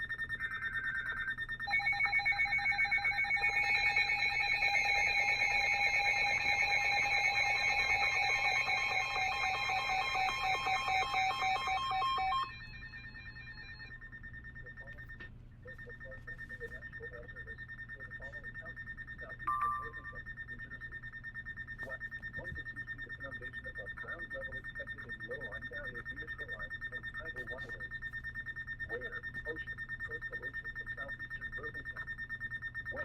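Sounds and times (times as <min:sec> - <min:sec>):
alert radio pulsing beeps: 0:00.0 - 0:33.0
faint steady high tone: 0:00.0 - 0:33.0.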